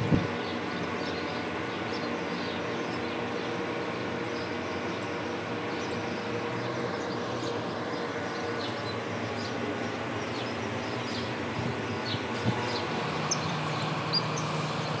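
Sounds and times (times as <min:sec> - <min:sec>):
birds chirping: 0:00.0 - 0:15.0
diesel locomotive engine running: 0:00.0 - 0:15.0.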